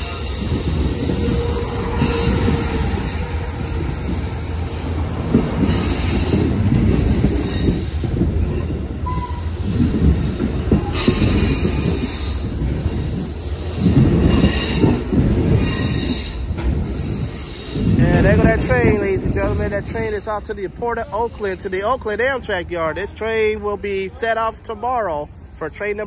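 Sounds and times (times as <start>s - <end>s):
train wheels rumbling on rails: 0.0s - 23.9s.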